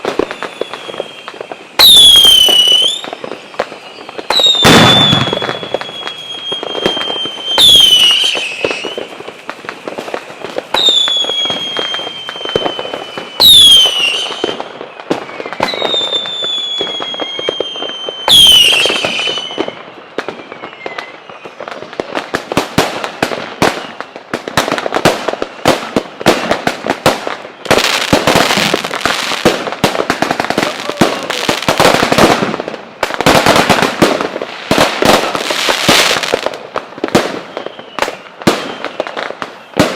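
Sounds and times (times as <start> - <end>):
firework bangs: 0.0 - 39.9
fireworks crackling and popping: 0.0 - 39.9
whistling fireworks: 0.0 - 39.9.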